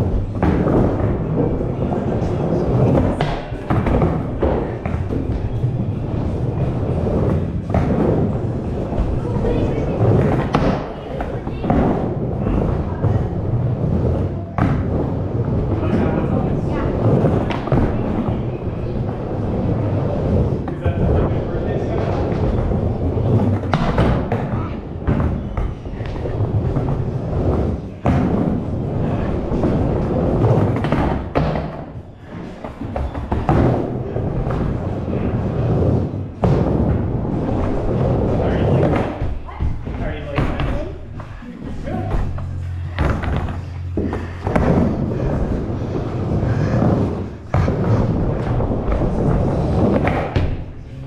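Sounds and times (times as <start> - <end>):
skateboard wheels rumbling on wood: 0.0 - 51.0.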